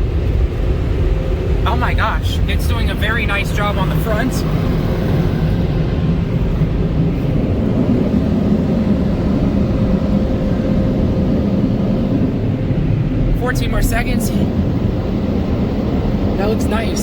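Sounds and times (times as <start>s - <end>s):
car wash dryers blowing air: 0.0s - 17.0s
faint constant whine: 0.0s - 17.0s.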